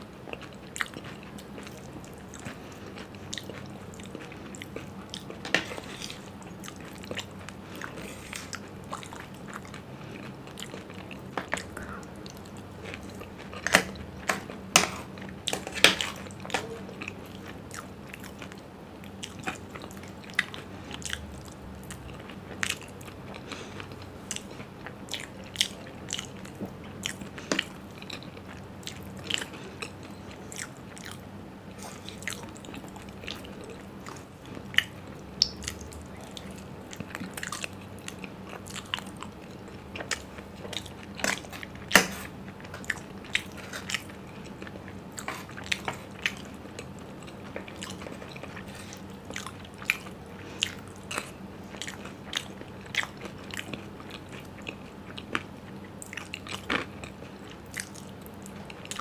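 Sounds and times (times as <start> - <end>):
chewing and crunching crisp food: 0.0 - 59.0.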